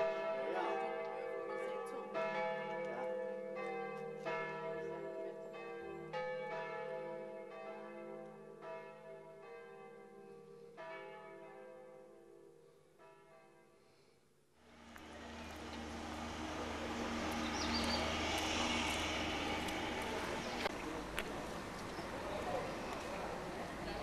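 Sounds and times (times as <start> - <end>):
church bells ringing: 0.0 - 13.8, 14.8 - 24.0.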